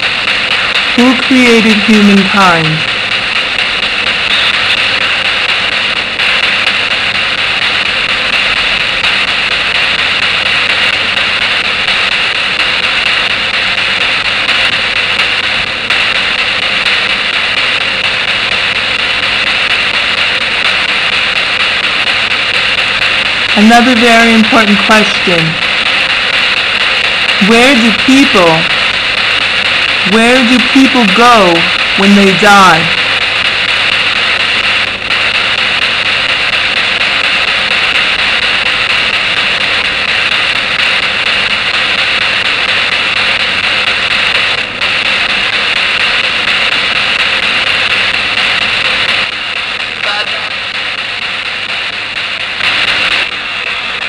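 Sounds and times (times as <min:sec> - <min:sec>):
radio static hiss: 0:00.0 - 0:54.0.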